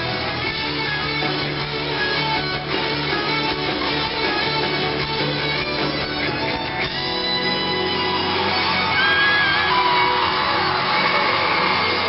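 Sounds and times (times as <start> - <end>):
pop-rock band playing: 0.0 - 12.0
strummed electric guitars: 0.0 - 12.0.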